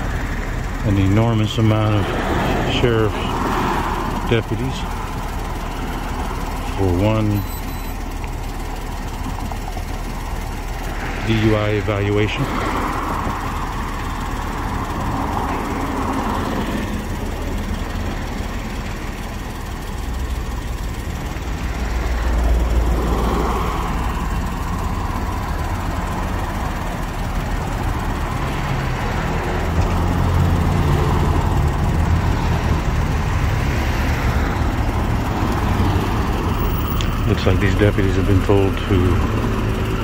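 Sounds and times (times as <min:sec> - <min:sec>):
low engine rumble: 0:00.0 - 0:40.0.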